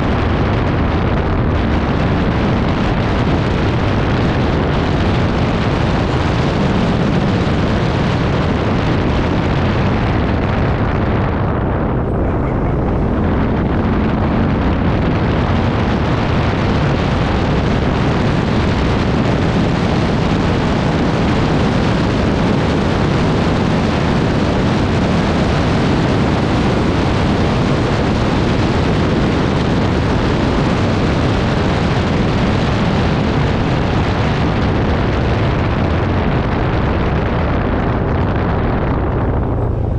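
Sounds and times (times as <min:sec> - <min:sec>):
atv engine: 0:00.0 - 0:34.6, 0:36.5 - 0:39.9
wind buffeting microphone: 0:00.0 - 0:39.9.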